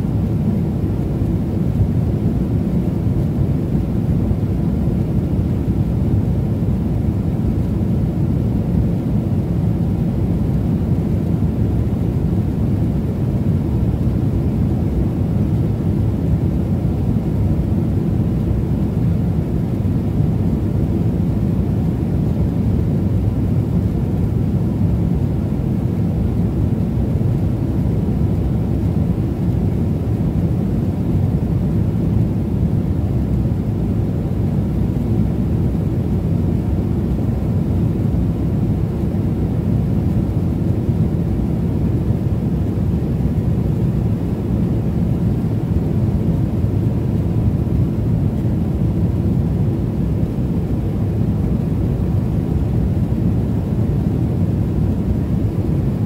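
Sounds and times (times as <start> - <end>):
airliner cabin engine roar: 0.0 - 56.0.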